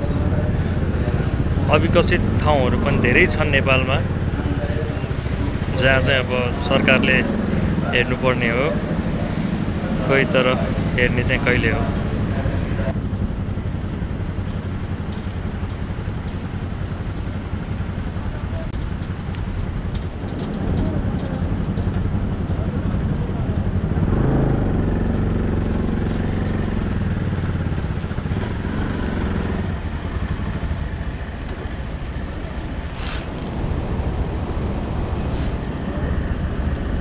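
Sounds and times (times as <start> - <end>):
vehicle engine on rough road: 0.0 - 37.0.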